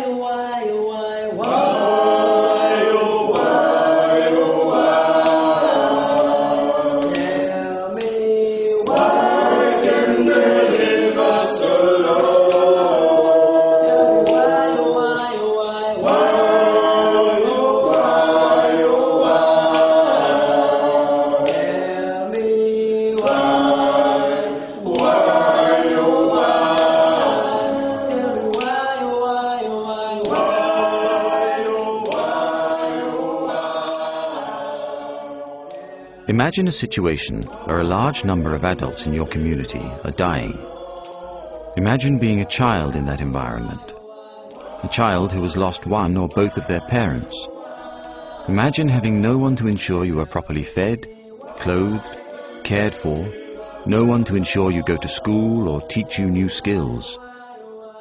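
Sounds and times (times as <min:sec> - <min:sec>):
group singing a cappella: 0:00.0 - 0:58.0.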